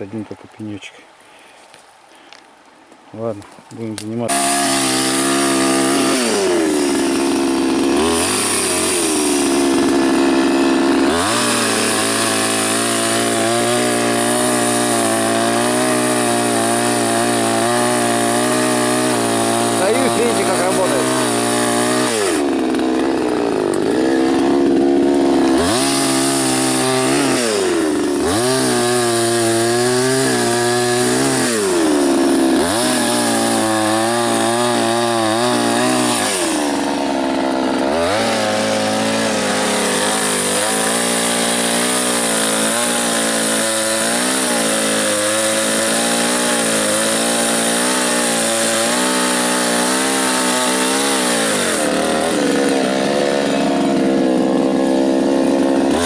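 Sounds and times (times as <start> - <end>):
chainsaw cutting wood: 3.4 - 56.0.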